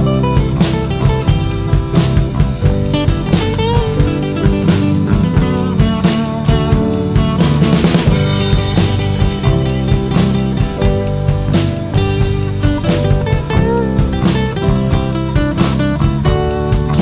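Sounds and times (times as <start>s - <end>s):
drum kit beat: 0.0s - 17.0s
instrumental rock guitar: 0.0s - 17.0s.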